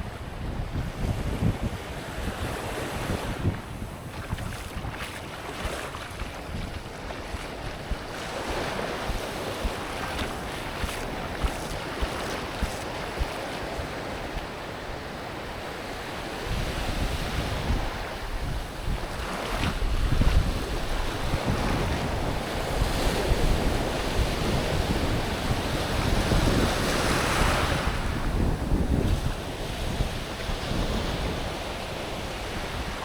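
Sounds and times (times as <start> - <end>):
ocean surf on beach: 0.0 - 33.0
wind buffeting microphone: 0.0 - 33.0.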